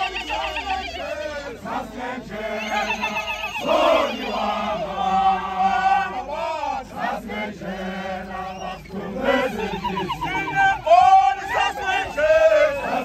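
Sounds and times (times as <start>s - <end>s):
men chanting and singing: 0.0s - 13.0s.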